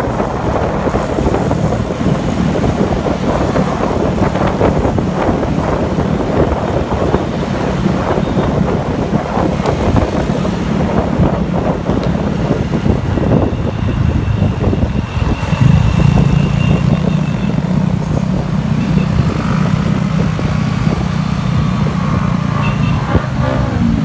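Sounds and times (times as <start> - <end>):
traffic: 0.0 - 24.0
wind buffeting microphone: 0.0 - 24.0.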